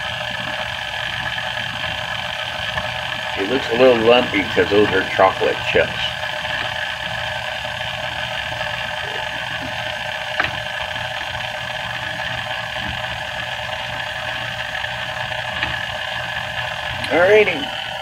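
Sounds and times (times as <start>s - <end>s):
stand mixer motor whirring: 0.0s - 18.0s.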